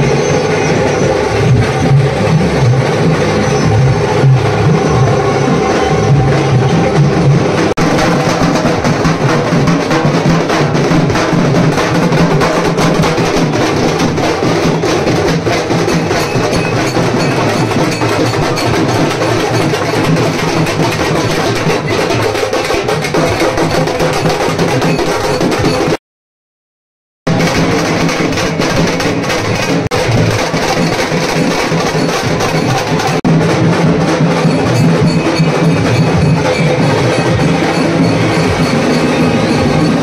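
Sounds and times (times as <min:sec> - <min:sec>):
drum band playing: 0:00.0 - 0:26.0, 0:27.3 - 0:40.0.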